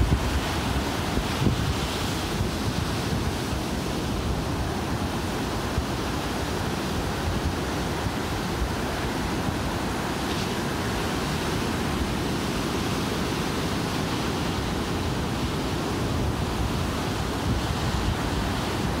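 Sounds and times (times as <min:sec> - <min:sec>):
ocean surf breaking: 0:00.0 - 0:19.0
wind on microphone: 0:00.0 - 0:19.0.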